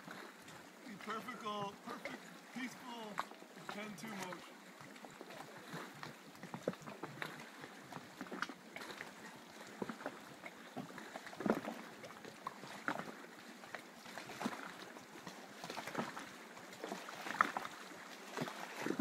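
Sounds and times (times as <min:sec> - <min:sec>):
waves lapping and splashing: 0:00.0 - 0:19.0.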